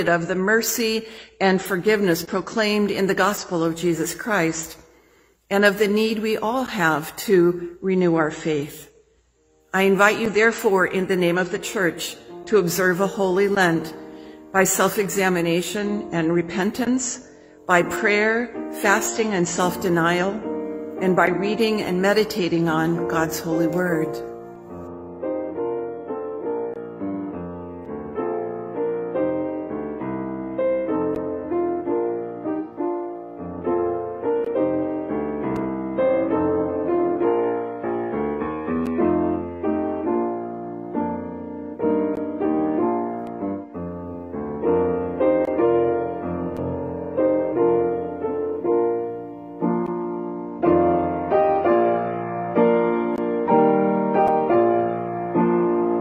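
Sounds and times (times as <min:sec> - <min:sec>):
upright piano playing chords: 0:09.5 - 0:56.0.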